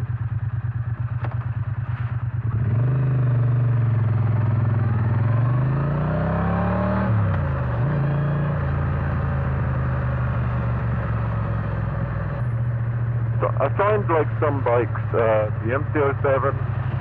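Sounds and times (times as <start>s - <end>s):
motorcycle engine idling and accelerating: 0.0s - 17.0s.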